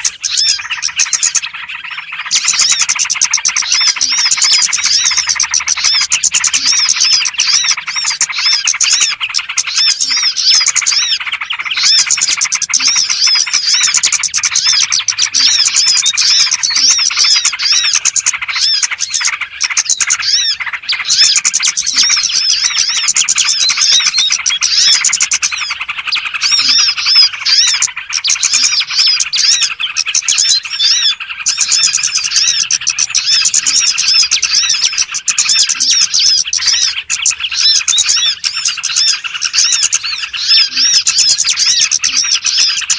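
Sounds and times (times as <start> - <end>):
flock of songbirds chirping: 0.0 - 42.9.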